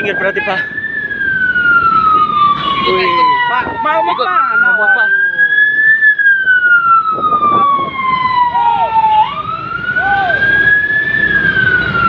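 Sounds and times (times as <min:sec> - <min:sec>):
siren wailing: 0:00.0 - 0:12.0
traffic: 0:00.0 - 0:12.0.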